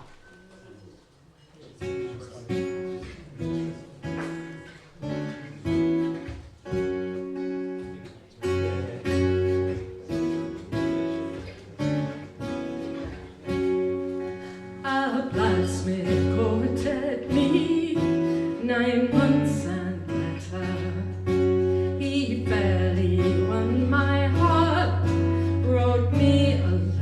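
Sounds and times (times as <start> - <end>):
acoustic guitar strumming: 1.8 - 27.0.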